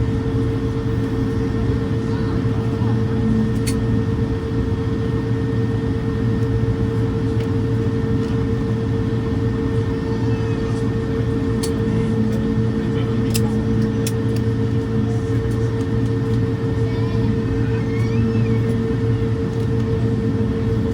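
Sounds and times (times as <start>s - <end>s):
airliner cabin drone: 0.0s - 20.9s.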